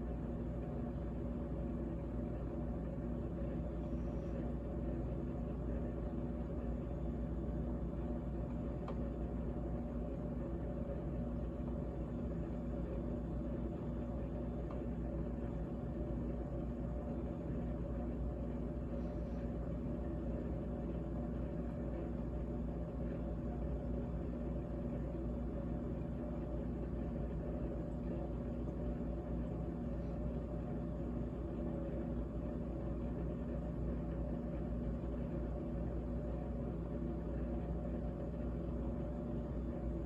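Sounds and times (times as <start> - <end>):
refrigerator humming: 0.0 - 40.0.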